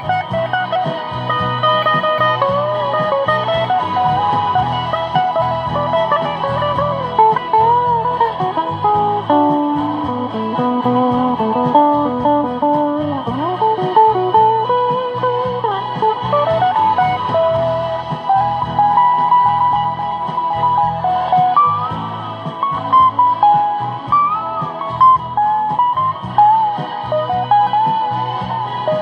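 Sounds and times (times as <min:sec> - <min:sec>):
guitar music: 0:00.0 - 0:29.0.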